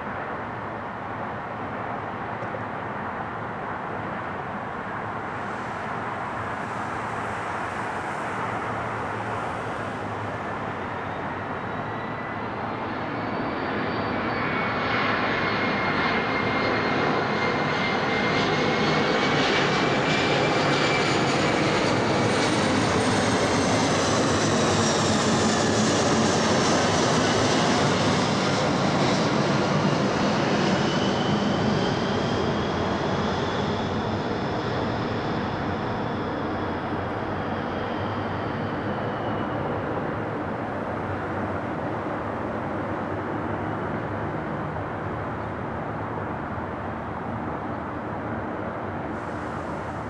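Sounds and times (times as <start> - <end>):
jet airliner roaring overhead: 0.0 - 50.0
jet engine high whine: 0.0 - 50.0.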